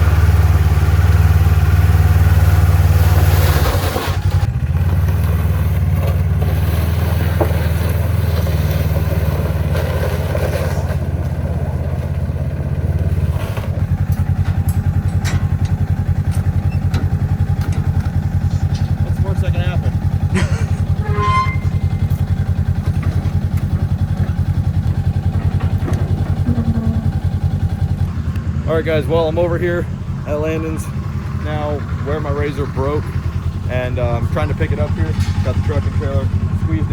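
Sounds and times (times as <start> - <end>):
vehicle engine humming: 0.0 - 36.9.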